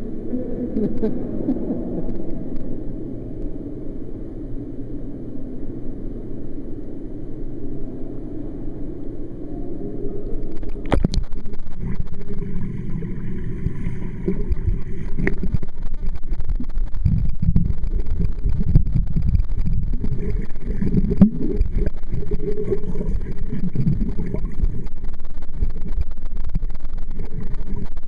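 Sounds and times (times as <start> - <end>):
muffled underwater rumble: 0.0 - 28.0.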